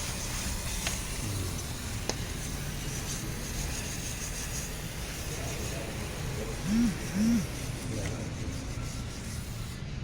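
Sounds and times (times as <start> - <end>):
workshop background noise: 0.0 - 10.0.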